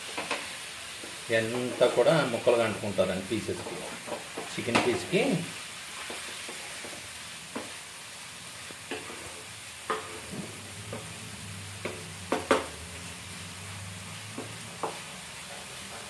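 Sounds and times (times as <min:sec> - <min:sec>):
chicken sizzling in a frying pan: 0:00.0 - 0:16.0
wooden spatula scraping a pan: 0:00.1 - 0:07.8, 0:08.7 - 0:16.0.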